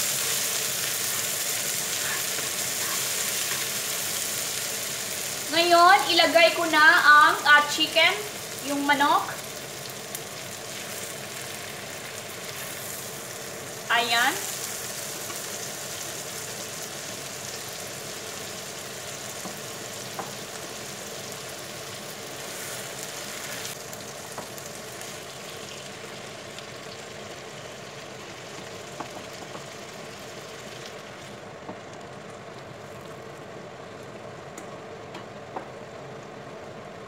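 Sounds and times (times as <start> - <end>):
chicken sizzling in a pan: 0.0 - 34.4.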